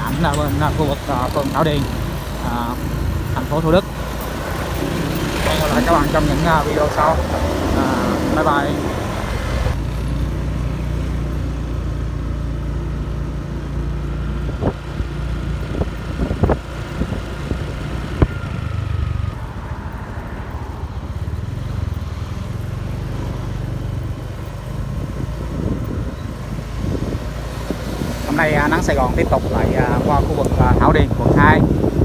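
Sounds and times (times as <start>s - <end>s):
motorbike engine rumble: 0.0s - 32.0s
road noise: 0.0s - 32.0s.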